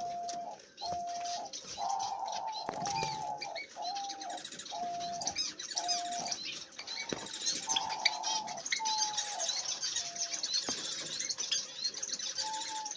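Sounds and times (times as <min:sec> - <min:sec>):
cage birds chirping: 0:00.0 - 0:12.9.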